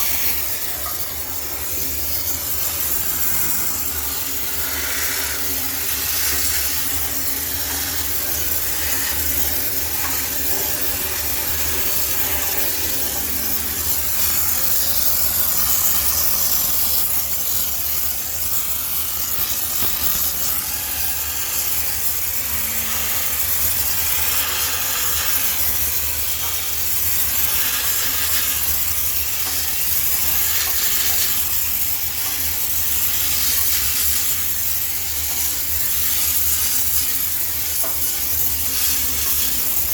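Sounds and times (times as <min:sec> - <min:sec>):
steam jetting hiss: 0:00.0 - 0:39.9.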